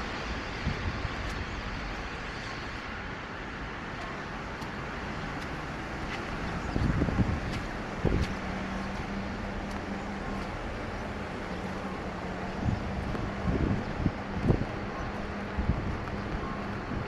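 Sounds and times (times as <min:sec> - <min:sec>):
light rain: 0:00.0 - 0:17.0
traffic on wet streets: 0:00.0 - 0:17.0.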